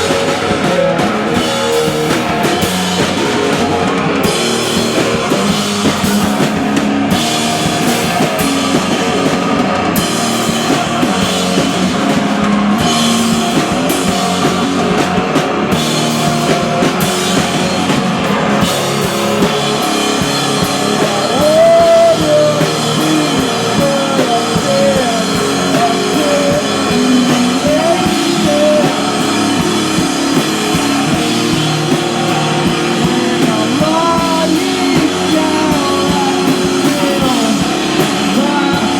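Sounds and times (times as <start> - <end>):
person singing: 0.0 - 38.9
rock band playing: 0.0 - 38.9.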